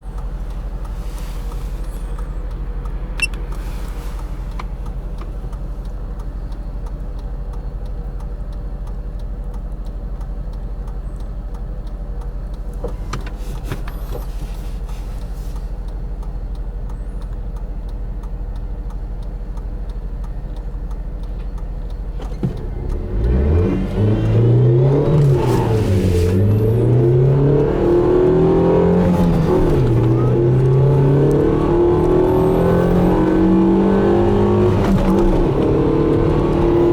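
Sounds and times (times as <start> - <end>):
car engine accelerating through gears: 0.0 - 36.9
car engine idling: 0.0 - 36.9.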